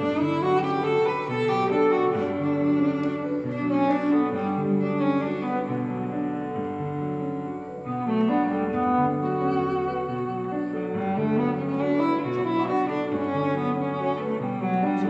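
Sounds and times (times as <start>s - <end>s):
bowed strings led by cello: 0.0s - 15.0s.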